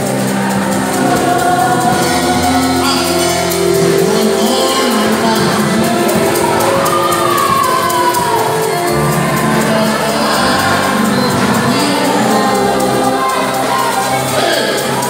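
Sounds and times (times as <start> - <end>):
backing voices singing: 0.0 - 15.0
live gospel band playing: 0.0 - 15.0
man singing into microphone: 0.0 - 15.0.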